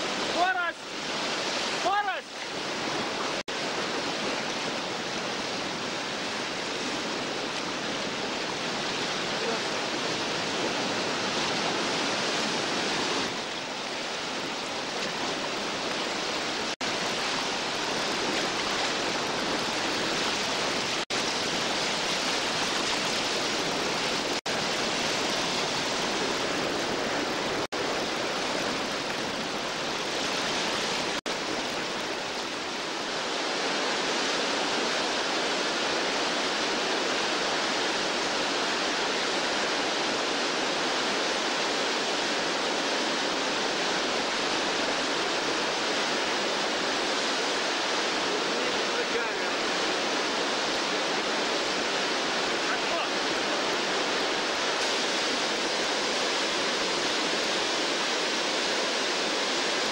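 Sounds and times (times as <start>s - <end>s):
rushing river rapids: 0.0s - 59.9s.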